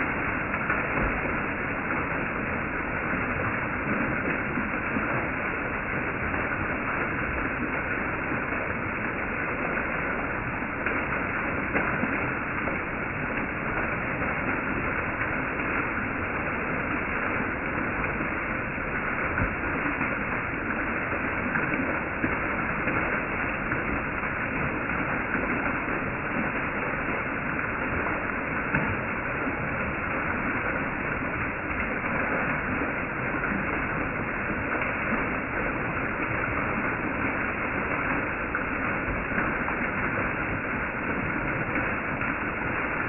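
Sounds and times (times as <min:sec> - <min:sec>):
small waterfall splashing: 0:00.0 - 0:43.0.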